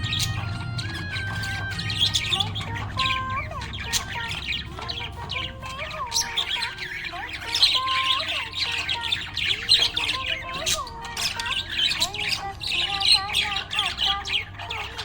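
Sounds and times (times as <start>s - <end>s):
budgerigar chirping: 0.0s - 15.0s.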